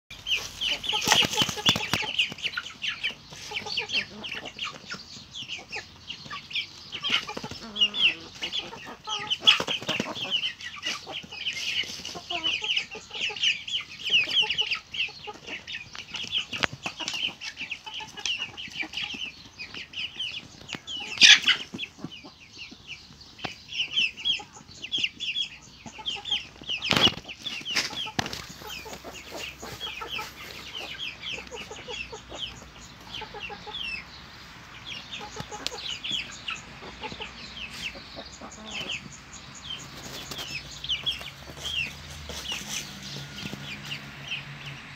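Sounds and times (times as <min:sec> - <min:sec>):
chicks peeping and clucking: 0:00.1 - 0:44.9.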